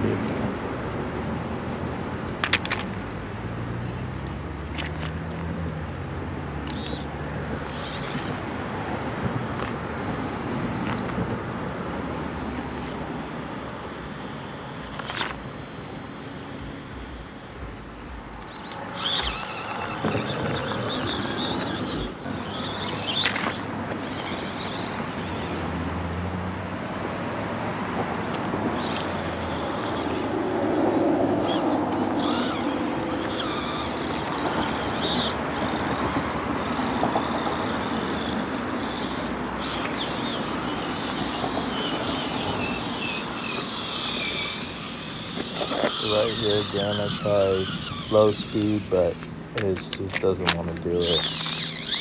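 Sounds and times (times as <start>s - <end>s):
outdoor background noise: 0.0s - 52.0s
small electric motor whirring: 6.4s - 13.1s, 14.1s - 52.0s.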